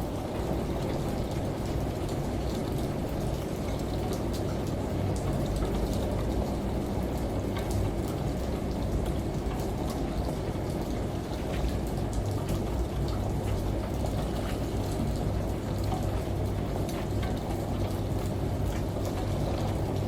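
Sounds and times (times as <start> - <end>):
running water rumble: 0.0 - 20.0
steady rain: 0.0 - 20.0.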